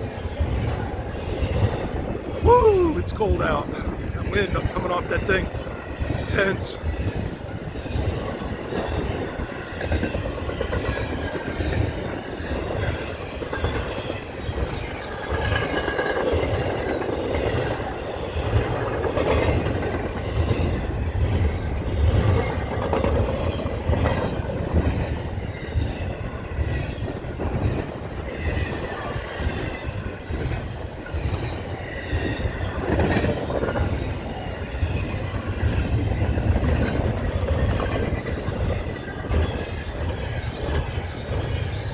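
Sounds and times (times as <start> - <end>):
wind buffeting microphone: 0.0 - 41.9
train wheels clattering: 3.8 - 41.9.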